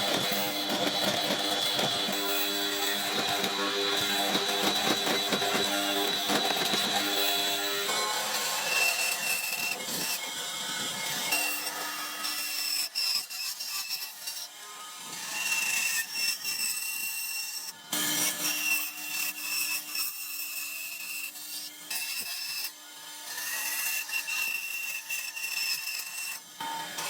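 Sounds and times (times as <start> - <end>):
tool scraping and cutting wood: 0.0 - 27.0.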